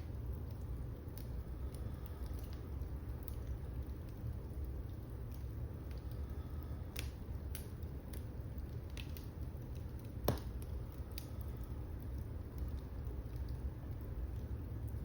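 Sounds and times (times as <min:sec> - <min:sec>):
wood fire rumbling and crackling: 0:00.0 - 0:15.0.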